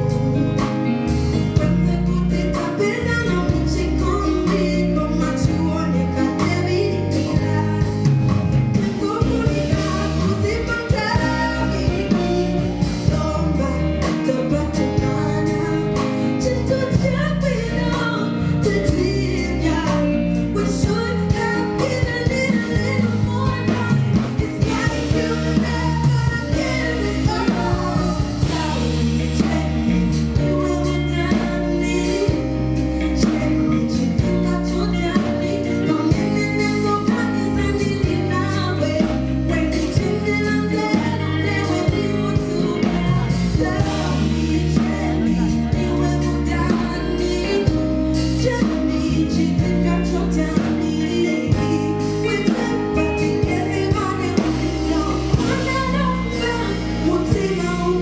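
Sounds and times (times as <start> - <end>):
bass line: 0.0 - 58.0
drums: 0.0 - 58.0
woman singing: 0.0 - 58.0.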